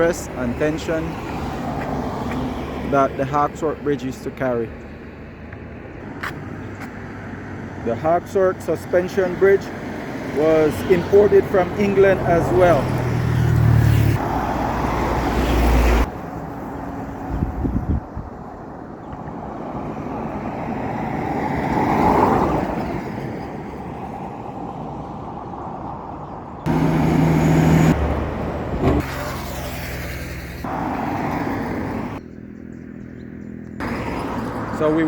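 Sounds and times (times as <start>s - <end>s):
passing traffic: 0.0s - 35.0s
road noise: 0.0s - 35.0s
vehicle engine hum: 0.0s - 35.0s.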